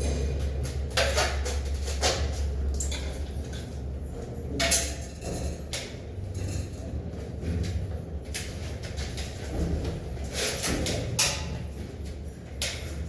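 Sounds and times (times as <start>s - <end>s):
knocks clicks and scrapes: 0.0s - 3.8s, 4.5s - 13.0s
steady low hum: 0.0s - 13.0s.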